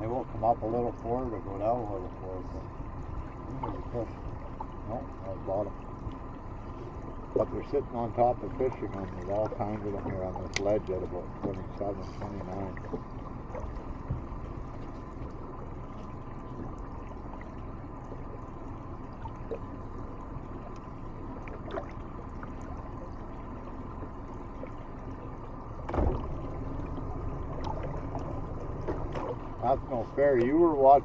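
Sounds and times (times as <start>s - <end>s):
low background rumble: 0.0s - 31.0s
water lapping against boat hull: 0.0s - 31.0s.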